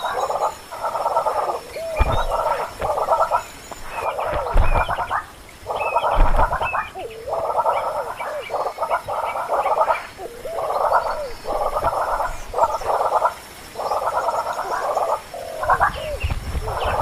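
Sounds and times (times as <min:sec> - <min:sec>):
rasping croak-like animal calls: 0:00.0 - 0:17.0.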